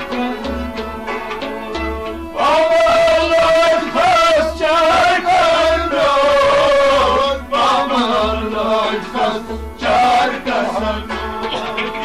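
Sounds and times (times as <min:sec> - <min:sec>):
instrumental accompaniment: 0:00.0 - 0:12.0
man singing ornamented melody: 0:02.3 - 0:12.0.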